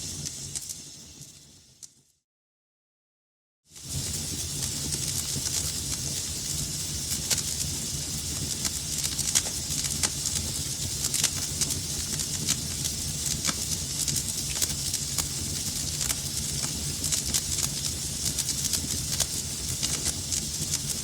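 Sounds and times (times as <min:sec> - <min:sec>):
fireplace fire crackling: 0:00.0 - 0:02.1, 0:03.7 - 0:21.0.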